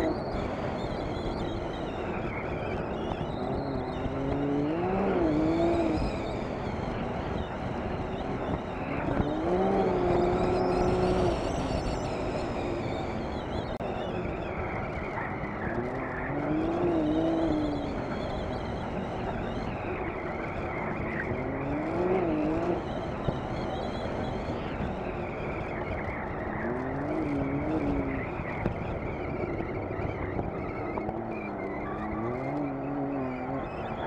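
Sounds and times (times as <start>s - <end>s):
terrain noise: 0.0s - 34.0s
utv engine running: 0.0s - 34.0s.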